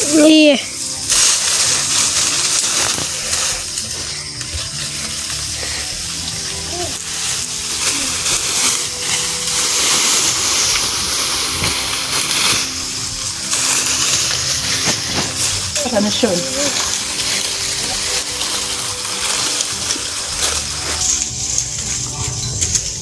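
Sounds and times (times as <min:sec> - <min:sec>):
water pouring and splashing: 0:00.0 - 0:23.0.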